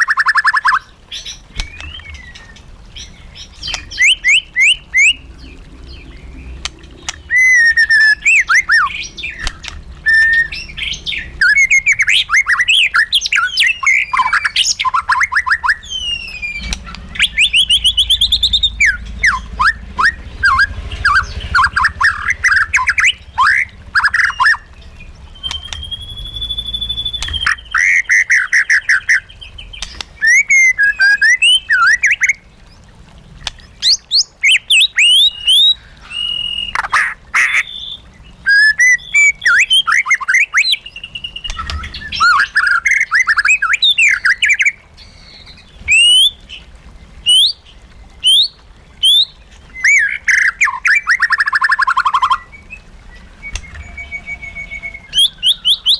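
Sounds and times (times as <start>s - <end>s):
bird singing varied song: 0.0s - 55.9s.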